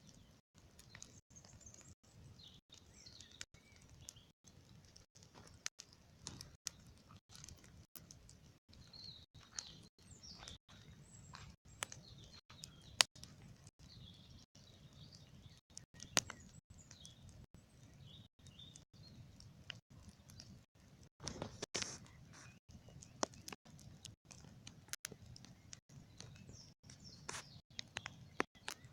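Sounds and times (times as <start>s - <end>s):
birds chirping: 0.0s - 20.6s, 21.2s - 28.9s
bonfire crackling: 0.0s - 28.9s
sharp pops from fire: 0.6s - 14.4s, 15.0s - 17.4s, 18.0s - 28.9s.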